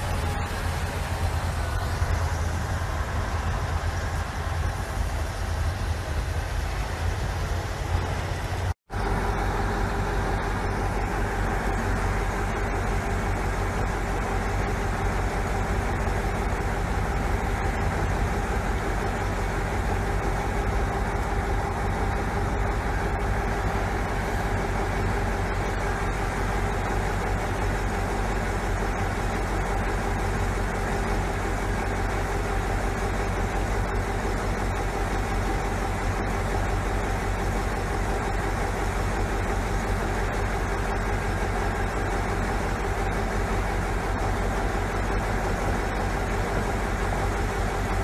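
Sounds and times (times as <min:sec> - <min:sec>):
truck engine droning: 0:00.0 - 0:48.0.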